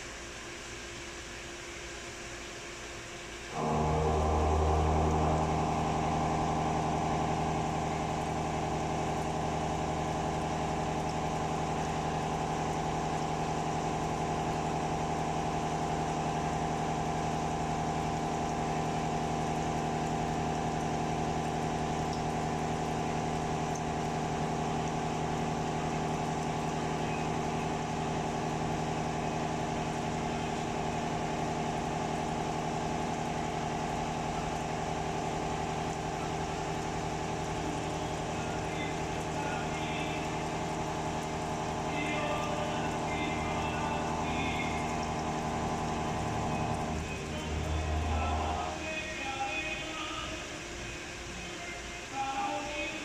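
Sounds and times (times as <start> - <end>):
face mill machining hum: 0.0 - 52.2.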